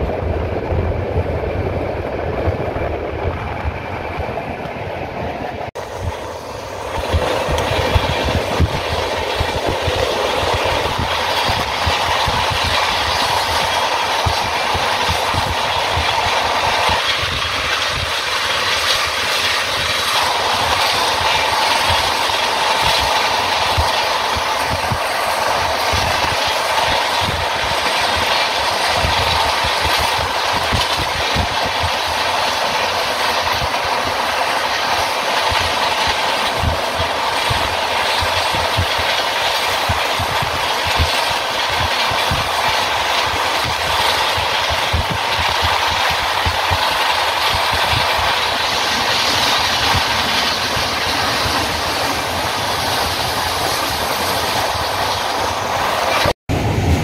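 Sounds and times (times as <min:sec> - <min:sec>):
train wheels rumbling on rails: 0:00.0 - 0:57.0
wheels clacking over rail joints: 0:00.0 - 0:57.0.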